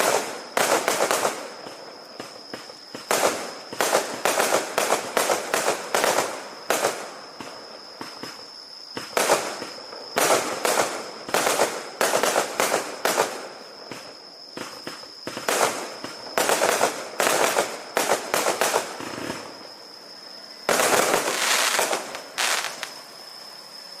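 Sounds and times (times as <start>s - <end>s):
fireworks bangs and crackles: 0.0s - 19.9s, 20.6s - 23.0s
thin steady high tone: 1.2s - 24.0s.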